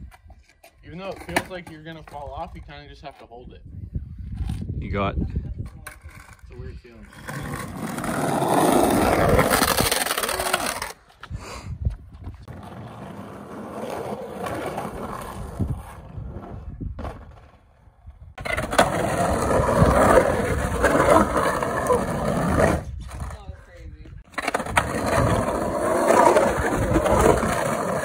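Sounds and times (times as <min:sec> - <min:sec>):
skateboard wheels rolling on concrete: 0:00.0 - 0:03.4, 0:04.2 - 0:28.0.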